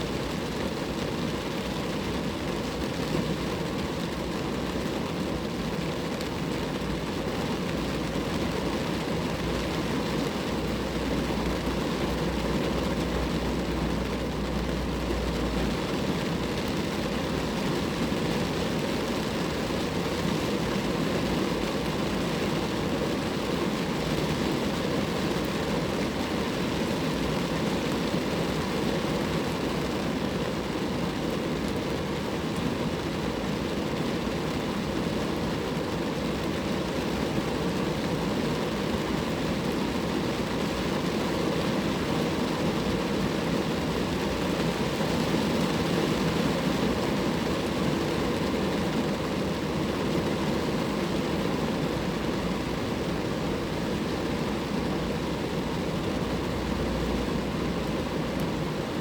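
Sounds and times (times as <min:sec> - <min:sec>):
rain falling on a car: 0:00.0 - 0:59.0.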